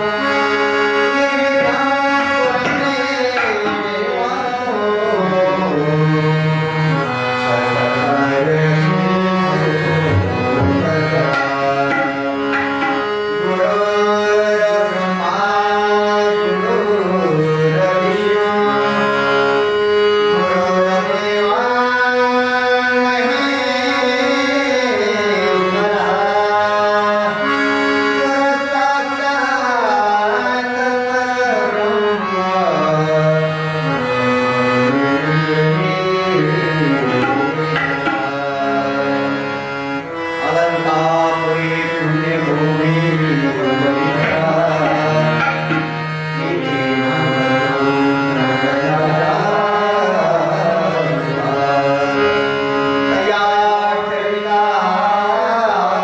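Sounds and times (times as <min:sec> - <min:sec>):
harmonium melody: 0:00.0 - 0:56.0
man singing: 0:00.0 - 0:56.0
tabla: 0:00.0 - 0:56.0.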